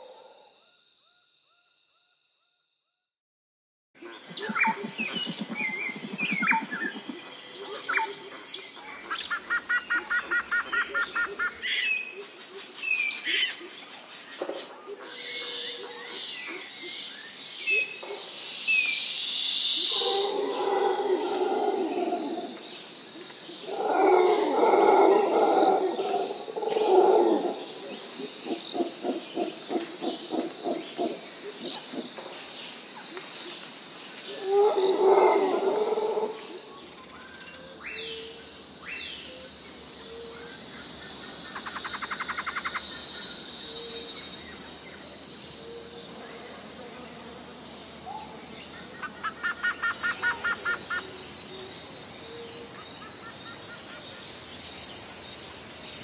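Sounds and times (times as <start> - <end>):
faint outdoor hiss: 4.0 - 56.0.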